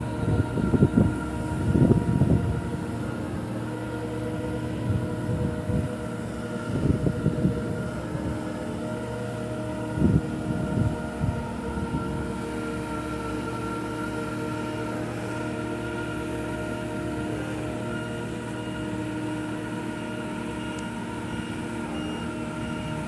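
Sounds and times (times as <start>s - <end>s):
boat hoist machinery drone: 0.0s - 23.0s
whining tones: 0.0s - 23.0s.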